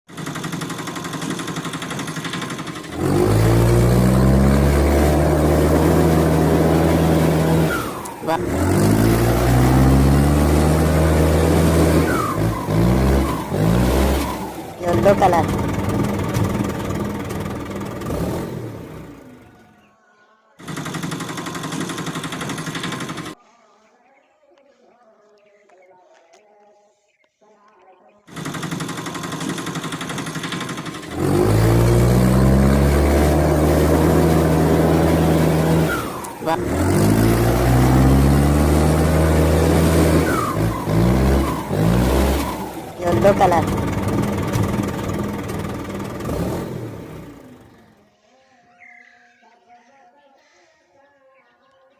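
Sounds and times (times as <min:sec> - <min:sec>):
engine running: 0:00.1 - 0:19.9, 0:20.6 - 0:23.4, 0:28.3 - 0:48.0.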